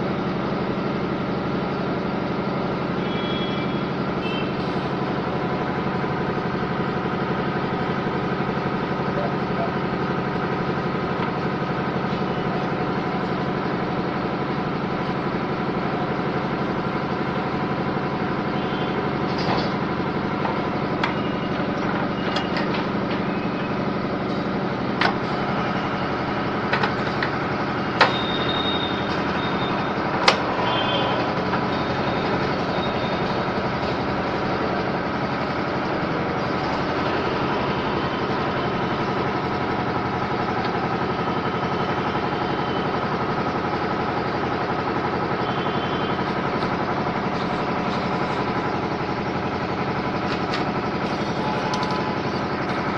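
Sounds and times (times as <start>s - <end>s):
motor running: 3.0s - 52.9s.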